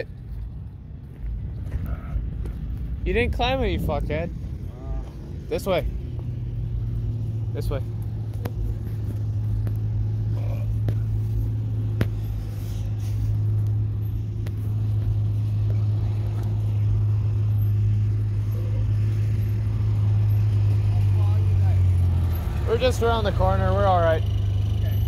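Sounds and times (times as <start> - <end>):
low rumble: 0.0 - 22.5.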